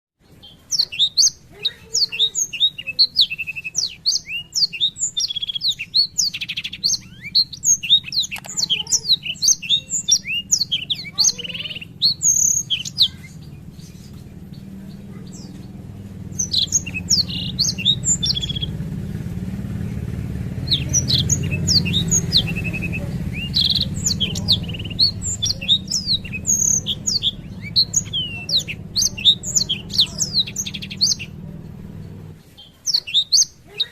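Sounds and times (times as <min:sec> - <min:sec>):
bird twittering song: 0:00.2 - 0:33.9
low steady hum: 0:03.2 - 0:32.5.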